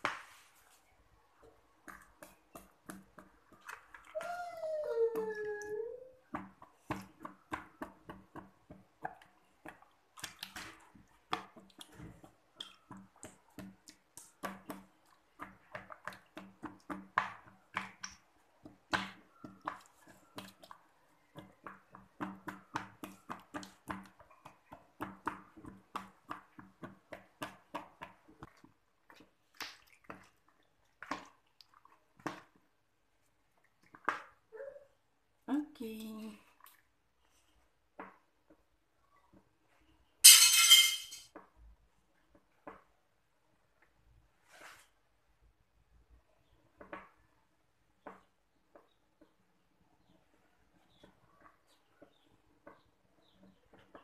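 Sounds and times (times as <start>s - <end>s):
squelching through wet batter: 0.0s - 40.2s, 41.4s - 54.0s.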